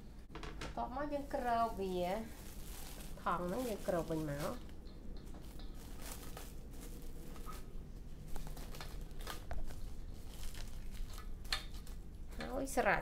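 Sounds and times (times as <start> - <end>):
low steady hum: 0.0 - 13.0
faint clicks and crinkles: 0.3 - 13.0.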